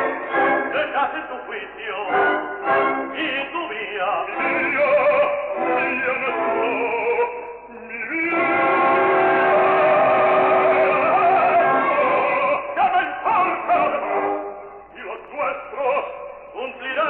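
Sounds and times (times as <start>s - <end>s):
operatic singing: 0.0s - 17.0s.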